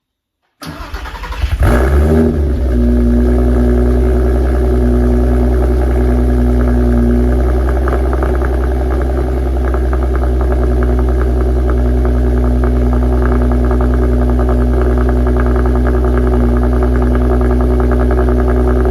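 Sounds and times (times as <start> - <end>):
car engine revving and idling: 1.0 - 18.9.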